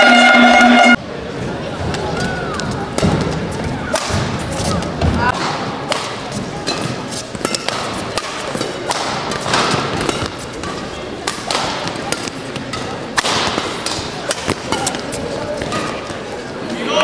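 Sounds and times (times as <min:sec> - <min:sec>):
racket hitting shuttlecock: 0:02.6 - 0:16.2.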